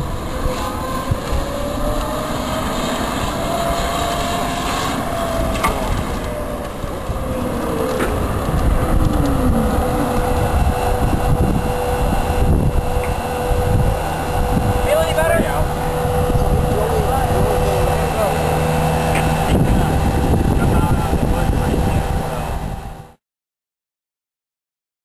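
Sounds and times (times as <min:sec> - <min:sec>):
go-kart motor whining: 0:00.0 - 0:23.1
wind rumble on microphone: 0:00.0 - 0:23.2.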